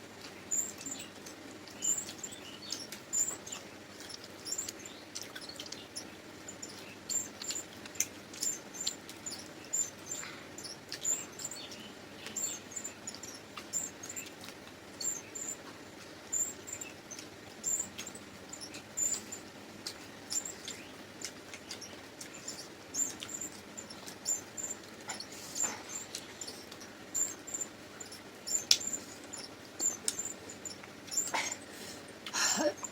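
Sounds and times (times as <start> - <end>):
chewing and lip-smacking: 0.1 - 32.9.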